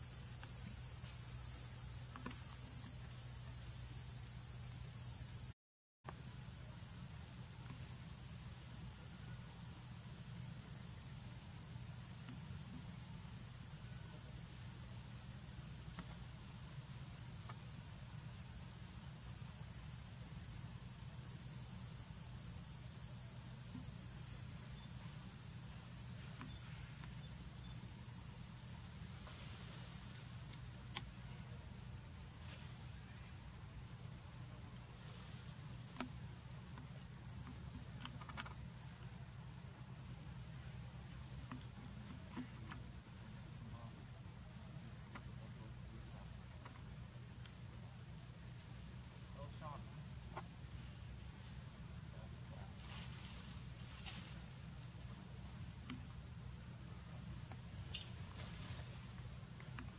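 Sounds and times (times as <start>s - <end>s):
insects droning: 0.0s - 59.9s
rising insect chirp: 0.0s - 59.9s.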